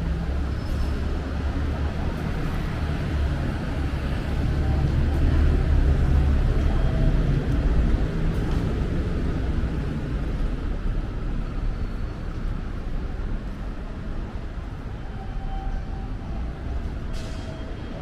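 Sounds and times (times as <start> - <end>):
heavy vehicle engine rumble: 0.0 - 15.1
road noise: 0.0 - 18.0.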